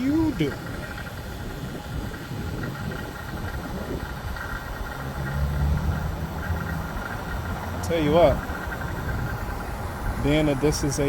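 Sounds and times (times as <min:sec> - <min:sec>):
vacuum pump humming: 0:00.0 - 0:11.0.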